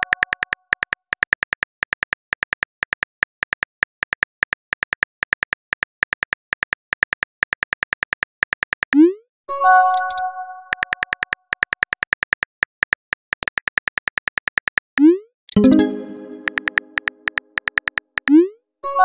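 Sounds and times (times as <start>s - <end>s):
phone keyboard typing clicks: 0.0s - 9.0s, 9.9s - 14.9s, 15.5s - 18.4s.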